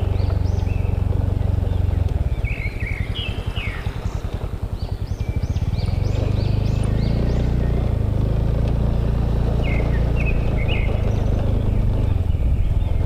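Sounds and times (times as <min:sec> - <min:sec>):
birds chirping: 0:00.0 - 0:13.0
motorbike engine running: 0:00.0 - 0:13.0.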